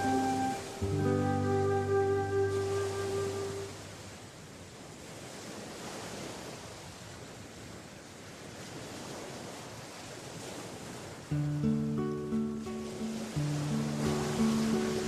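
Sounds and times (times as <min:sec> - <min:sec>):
sea surf washing on shore: 0:00.0 - 0:15.0.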